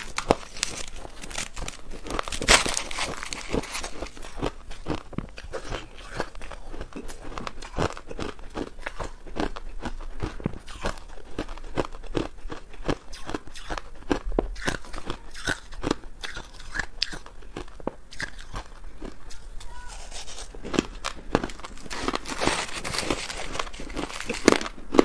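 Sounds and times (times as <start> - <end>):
crushed ice being chewed: 0.0 - 25.0.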